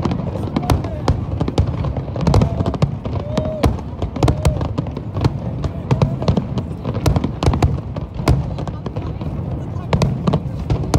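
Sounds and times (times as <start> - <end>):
crowd voices: 0.0 - 10.9
fireworks bursting and crackling: 0.0 - 10.9.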